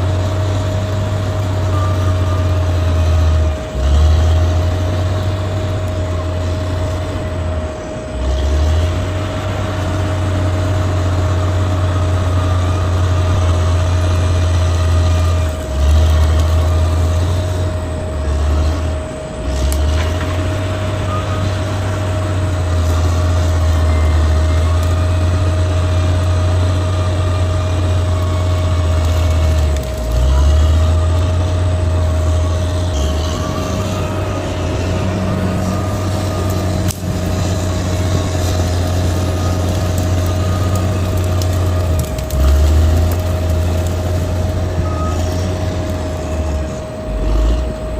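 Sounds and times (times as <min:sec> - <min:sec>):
heavy diesel engine under load: 0:00.0 - 0:47.9
thin whine: 0:00.0 - 0:47.9.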